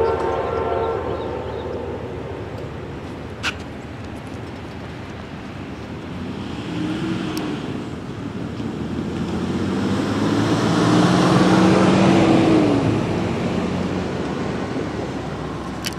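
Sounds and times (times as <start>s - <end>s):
cars driving past: 0.0s - 15.9s.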